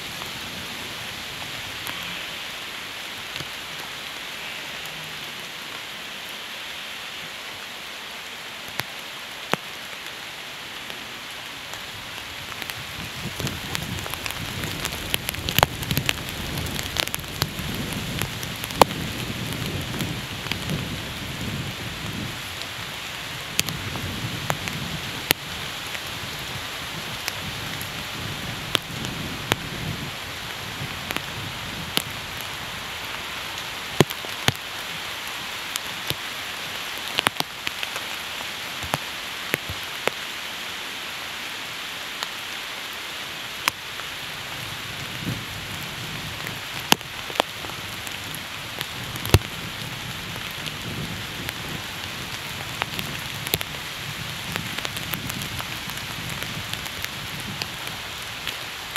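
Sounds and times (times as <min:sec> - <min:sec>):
raindrops ticking close by: 0:00.0 - 0:58.9
steady rain falling: 0:00.0 - 0:58.9.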